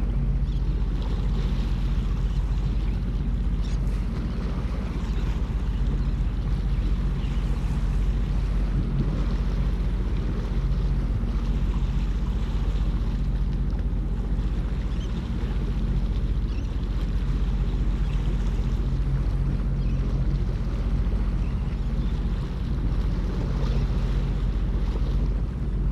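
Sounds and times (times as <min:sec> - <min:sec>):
jet ski engine running: 0:00.0 - 0:25.9
water noise: 0:00.0 - 0:25.9
wind buffeting microphone: 0:00.0 - 0:25.9.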